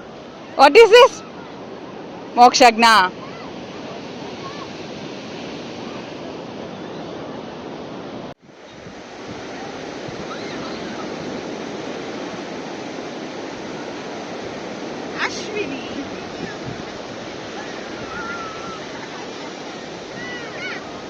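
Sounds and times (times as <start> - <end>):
surf washing on a beach: 0.0 - 21.0
wind buffeting microphone: 3.1 - 21.0.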